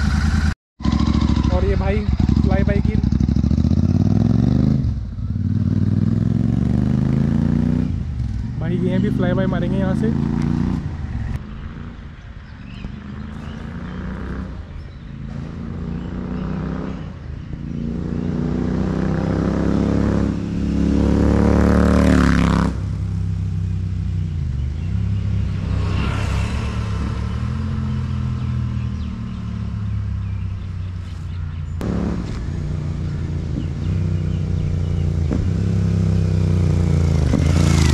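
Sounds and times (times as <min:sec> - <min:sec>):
motorcycle engine accelerating: 0:00.0 - 0:12.0, 0:12.7 - 0:37.9.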